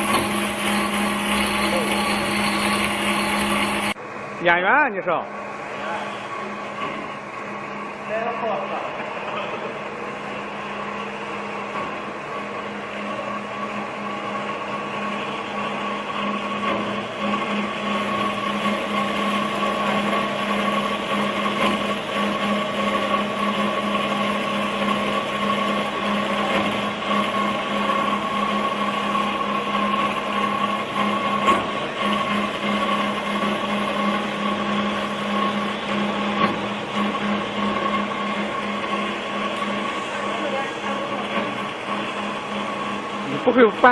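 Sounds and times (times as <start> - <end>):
band saw humming: 0.0 - 4.0, 4.8 - 43.9.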